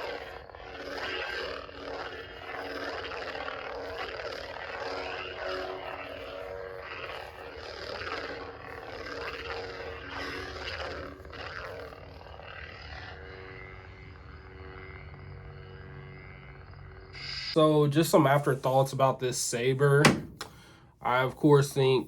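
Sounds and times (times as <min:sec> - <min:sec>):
lightsaber hum: 0:00.0 - 0:21.2.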